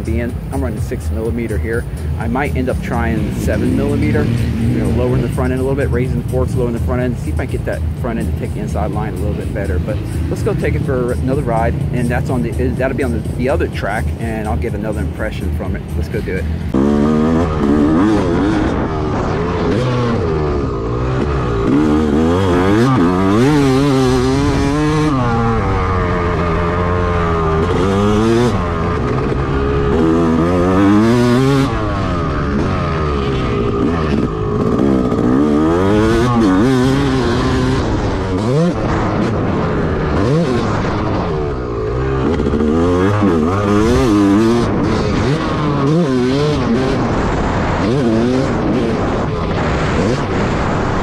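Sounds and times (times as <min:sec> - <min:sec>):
motocross bike engine revving: 0:00.0 - 0:51.0.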